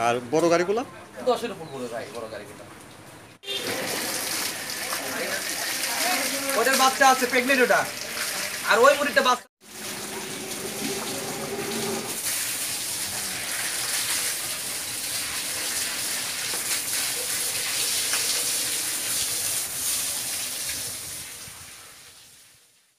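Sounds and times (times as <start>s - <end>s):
hose water spraying and splashing: 3.4s - 22.9s.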